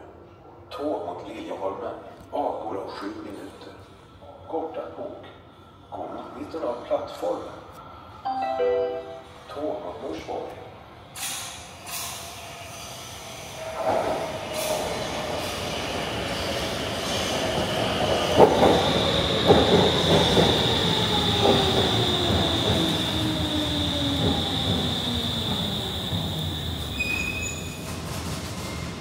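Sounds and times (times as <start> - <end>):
train approaching rush: 5.4 - 29.0.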